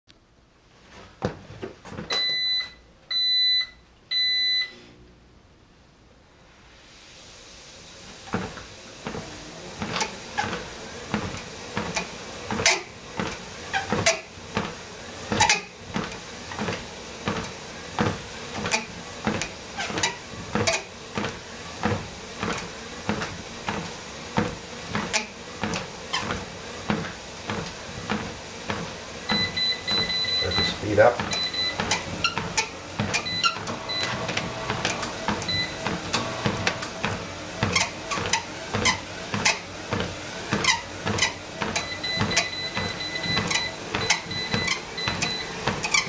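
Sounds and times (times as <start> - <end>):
treadmill motor whirring: 1.2 - 5.3, 7.5 - 46.0.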